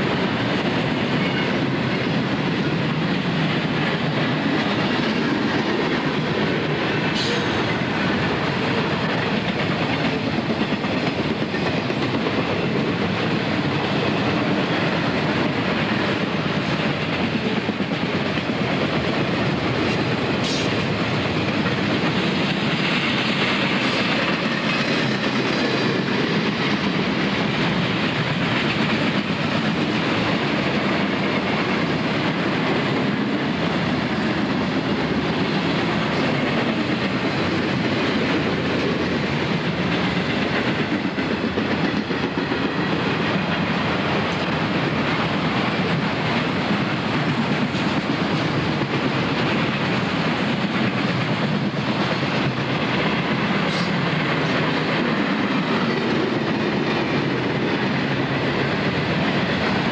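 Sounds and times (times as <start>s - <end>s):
clickety-clack of rail joints: 0.0s - 59.9s
freight train wheels rumbling: 0.0s - 59.9s.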